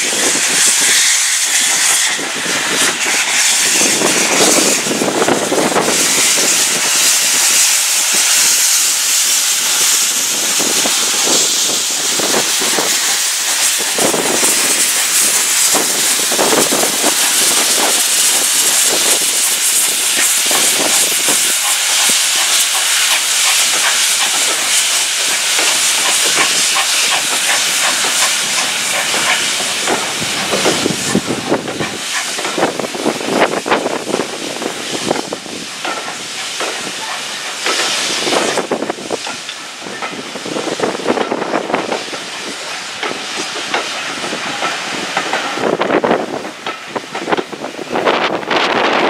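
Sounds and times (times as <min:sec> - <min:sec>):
steam locomotive hissing: 0:00.0 - 0:49.0.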